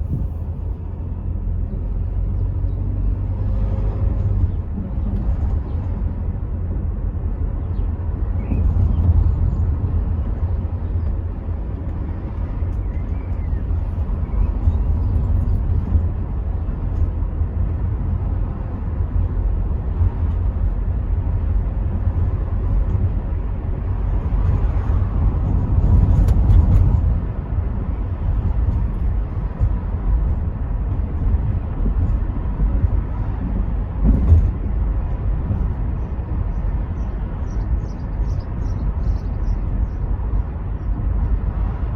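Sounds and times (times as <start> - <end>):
engine and tyre rumble: 0.0 - 41.9
wind through open windows: 0.0 - 41.9.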